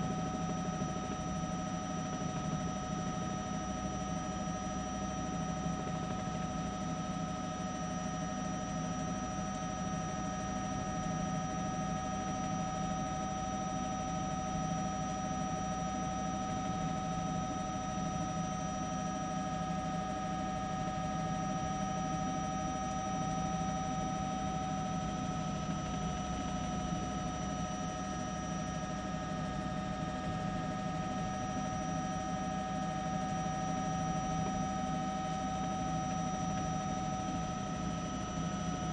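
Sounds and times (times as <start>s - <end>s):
helicopter engine and rotors: 0.0s - 38.9s.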